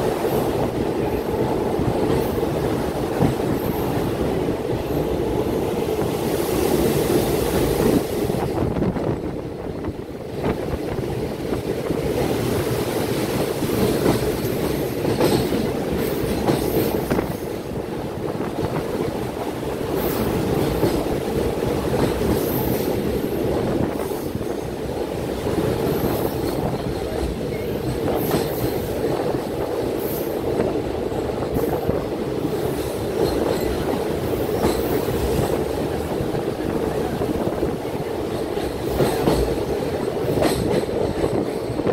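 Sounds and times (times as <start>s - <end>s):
rail joint clicks: 0.0s - 41.9s
train wheels rumbling on track: 0.0s - 41.9s.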